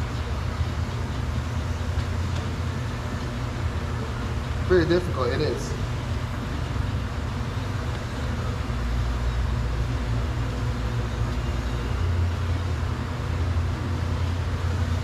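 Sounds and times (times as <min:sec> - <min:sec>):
low rumble of machinery: 0:00.0 - 0:15.0.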